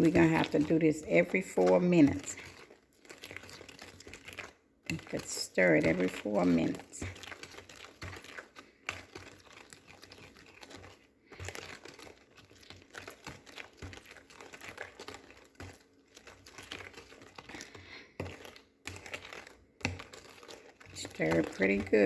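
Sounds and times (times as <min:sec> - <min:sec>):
spoon scraping thick mixture: 0:00.0 - 0:22.0.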